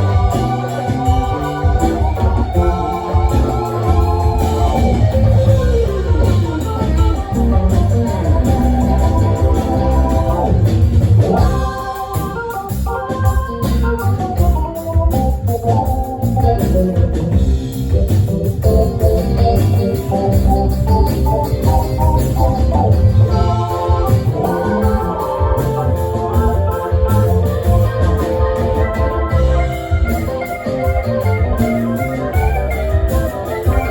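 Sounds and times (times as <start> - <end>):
live band playing: 0.0 - 33.9
organ keyboard lead: 0.0 - 33.9.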